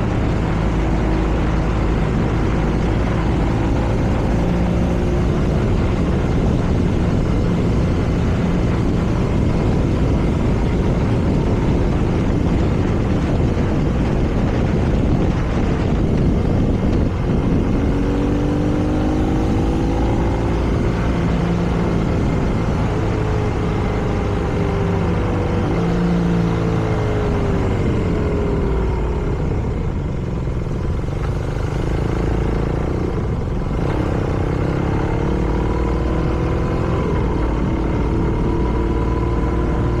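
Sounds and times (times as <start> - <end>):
motorcycle engine under way: 0.0 - 40.0
wind and road noise: 0.0 - 40.0.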